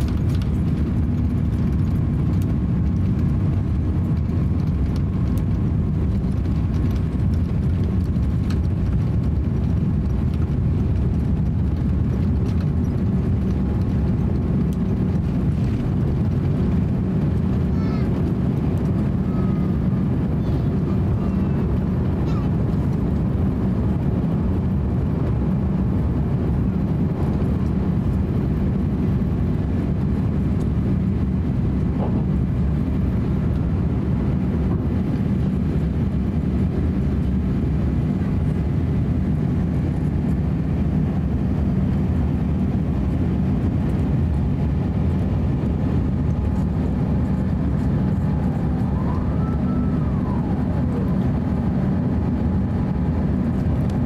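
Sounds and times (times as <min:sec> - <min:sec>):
airplane cabin engine roar: 0:00.0 - 0:54.0.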